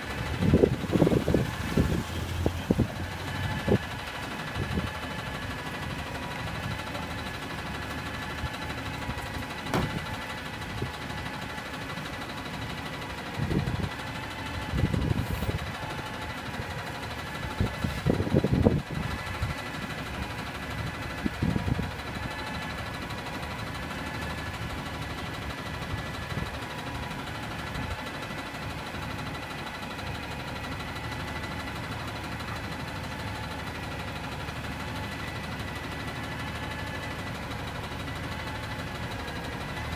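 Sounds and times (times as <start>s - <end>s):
garbage truck engine idling: 0.0s - 39.9s.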